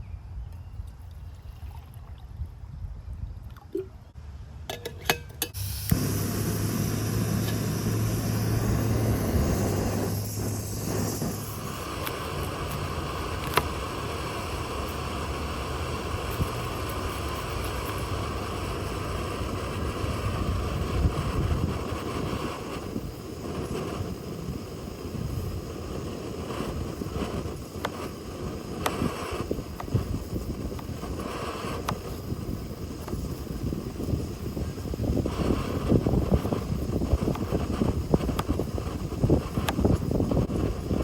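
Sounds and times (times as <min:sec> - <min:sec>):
wind buffeting microphone: 0:00.0 - 0:03.6, 0:05.9 - 0:41.0.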